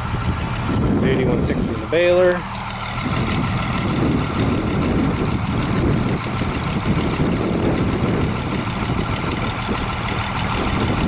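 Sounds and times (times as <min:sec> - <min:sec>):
tractor diesel engine rumbling: 0:00.0 - 0:11.0.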